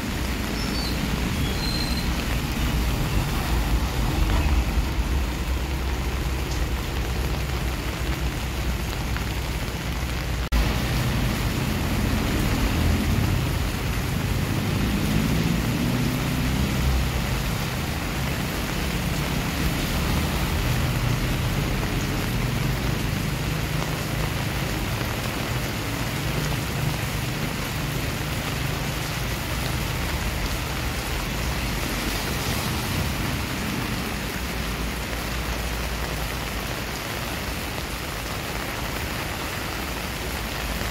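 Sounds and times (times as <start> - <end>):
rain splashing on concrete: 0.0 - 40.9.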